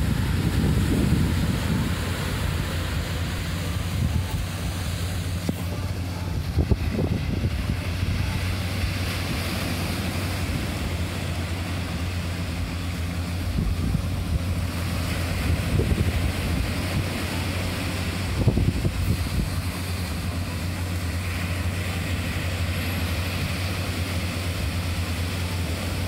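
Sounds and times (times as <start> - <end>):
surf washing on sandy beach: 0.0 - 26.0
wind rumbling on microphone: 0.0 - 26.0.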